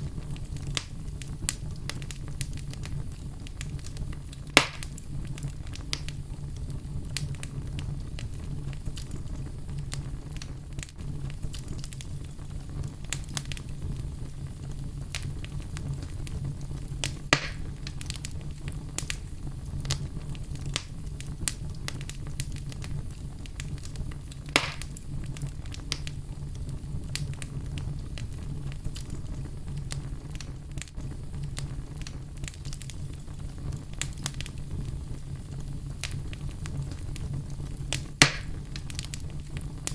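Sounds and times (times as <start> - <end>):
fire crackling: 0.0 - 39.9
low rumble of flames: 0.0 - 39.9
sharp fire pops: 0.0 - 39.9.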